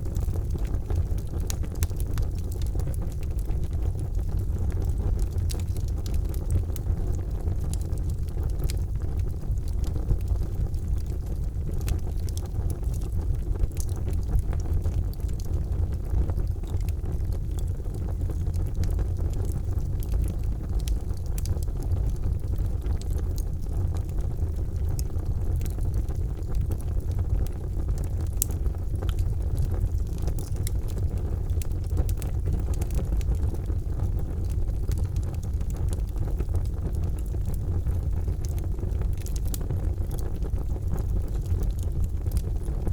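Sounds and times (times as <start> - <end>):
fire crackling and popping: 0.0 - 42.9
fire rumbling: 0.0 - 42.9.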